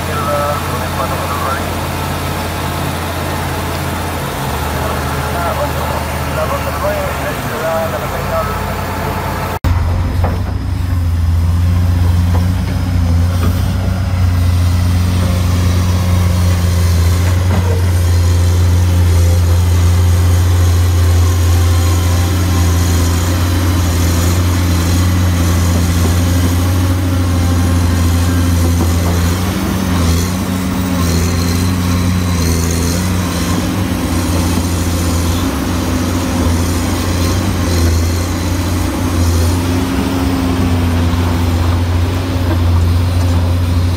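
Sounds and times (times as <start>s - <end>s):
excavator diesel engine humming: 0.0s - 43.9s.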